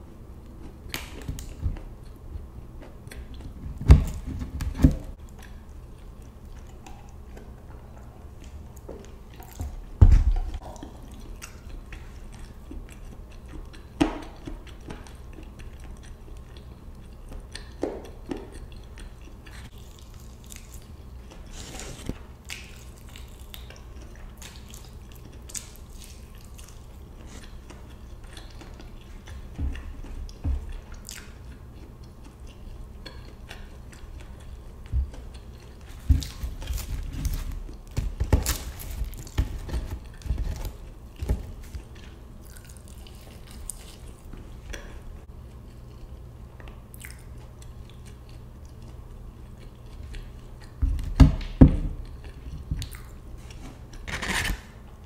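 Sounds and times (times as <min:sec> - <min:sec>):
person chewing and biting food: 0:00.4 - 0:50.8, 0:52.0 - 0:54.9.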